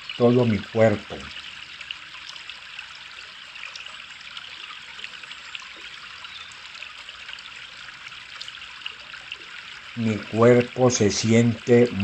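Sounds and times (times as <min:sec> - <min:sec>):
stream trickling: 0:00.0 - 0:12.0.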